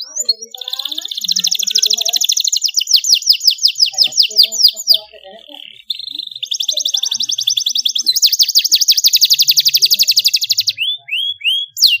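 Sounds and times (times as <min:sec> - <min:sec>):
canary singing trills and chirps: 0:00.0 - 0:12.0.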